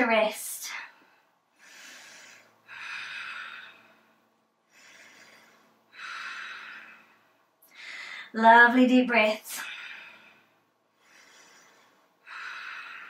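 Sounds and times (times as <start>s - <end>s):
woman breathing deeply: 0.9s - 8.3s, 9.6s - 13.0s.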